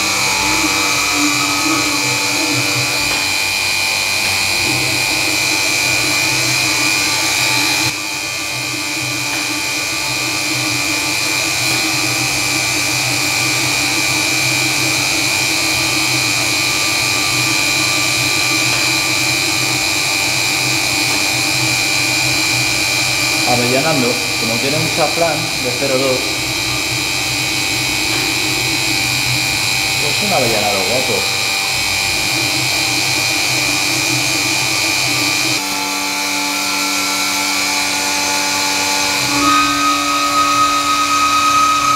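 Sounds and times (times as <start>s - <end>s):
milling machine cutting metal: 0.0s - 41.9s.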